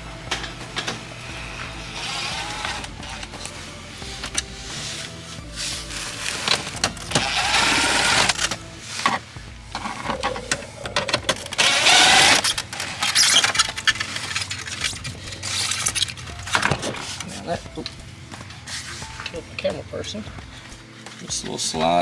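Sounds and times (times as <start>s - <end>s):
plastic scraping: 0.0s - 21.7s.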